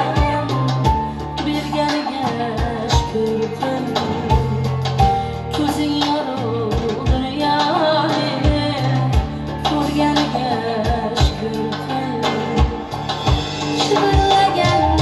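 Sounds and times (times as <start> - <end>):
keyboard: 0.0 - 15.0
woman singing into microphone: 0.0 - 15.0.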